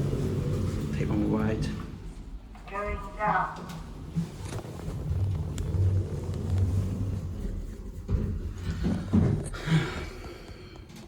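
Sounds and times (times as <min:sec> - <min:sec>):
lift car rumbling: 0:00.0 - 0:09.9.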